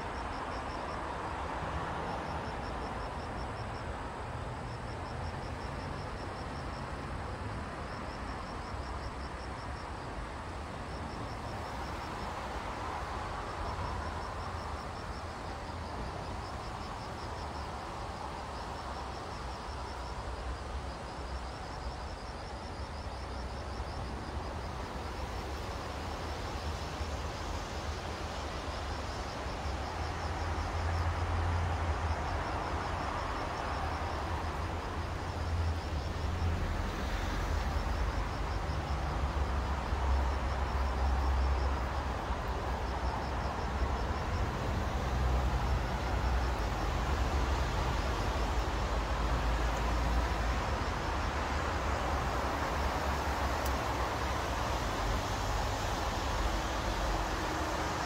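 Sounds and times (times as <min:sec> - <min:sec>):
insect chirping trills: 0:04.6 - 0:58.0.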